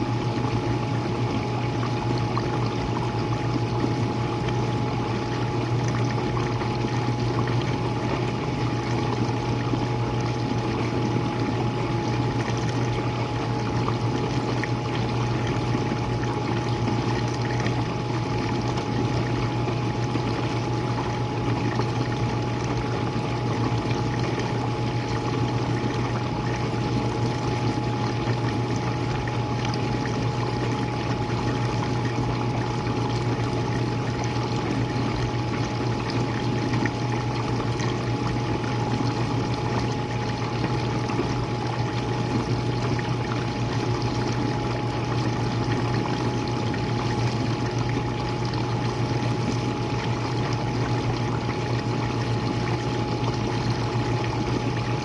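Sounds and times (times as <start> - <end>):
dishwasher pump motor hum: 0.0 - 55.0.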